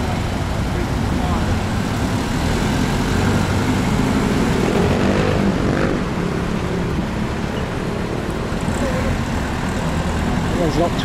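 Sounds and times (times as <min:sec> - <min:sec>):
city traffic: 0:00.0 - 0:11.0.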